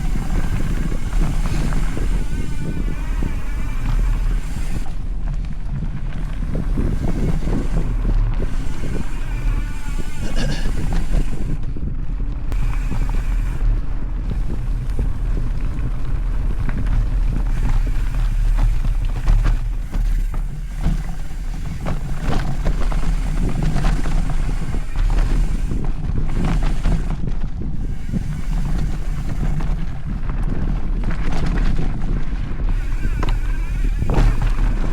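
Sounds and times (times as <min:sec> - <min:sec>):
bike rattling over bumps: 0:00.0 - 0:34.9
wind rumbling on microphone: 0:00.0 - 0:34.9.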